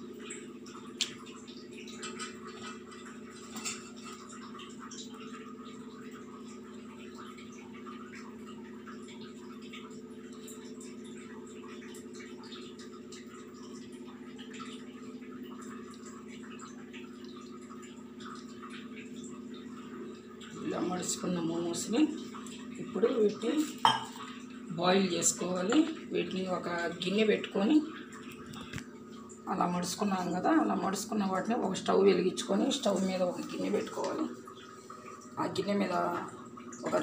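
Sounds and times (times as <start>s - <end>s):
low background hum: 0.0s - 37.0s.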